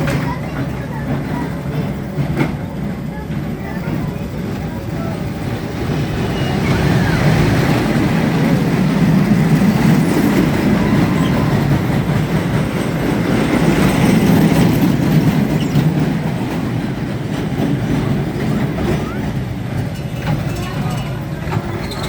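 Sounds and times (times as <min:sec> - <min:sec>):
ride cars rumbling on track: 0:00.0 - 0:22.0.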